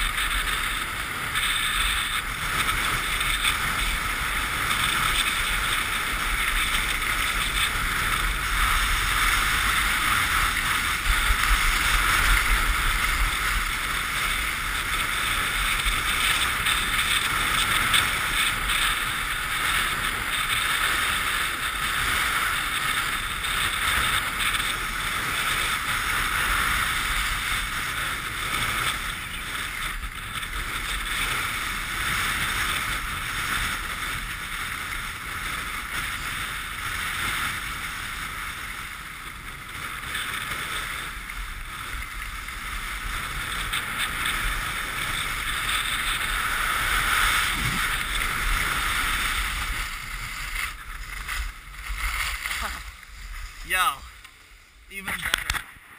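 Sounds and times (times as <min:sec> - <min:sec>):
wind buffeting microphone: 0:00.0 - 0:55.7
skis scraping on hard snow: 0:00.0 - 0:55.9.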